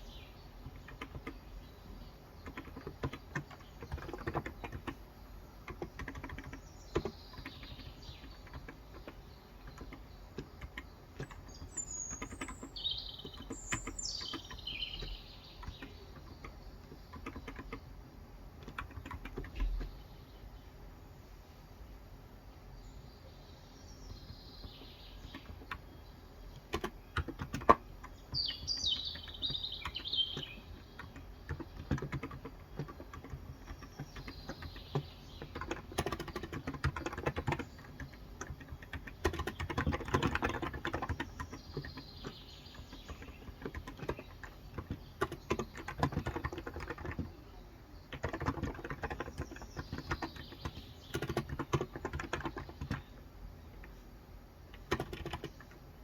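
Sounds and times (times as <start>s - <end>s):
birds chirping: 0.0s - 56.0s
keyboard typing: 0.6s - 1.6s, 2.4s - 5.0s, 5.6s - 18.0s, 18.6s - 20.0s, 24.6s - 47.5s, 48.1s - 53.2s, 54.7s - 55.8s.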